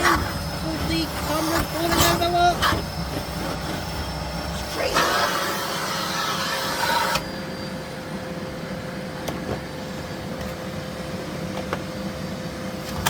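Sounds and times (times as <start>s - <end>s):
vacuum cleaner humming: 0.0s - 13.0s.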